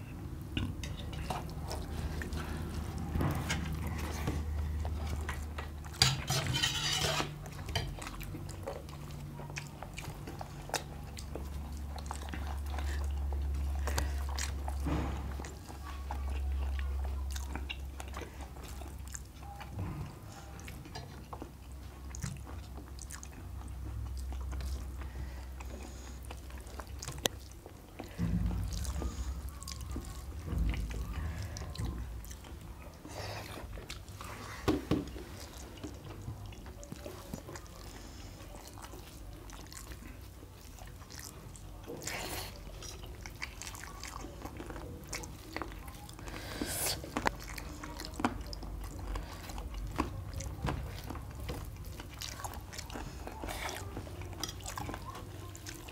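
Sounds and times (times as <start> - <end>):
people chewing: 0.0 - 55.9.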